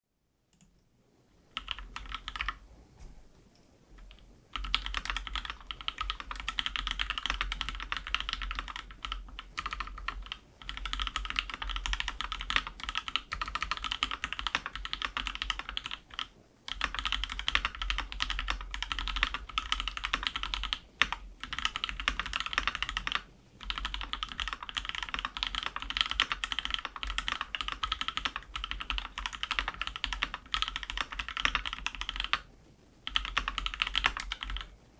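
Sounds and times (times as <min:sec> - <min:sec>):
mechanical keyboard typing: 0:01.6 - 0:02.6, 0:04.0 - 0:34.7.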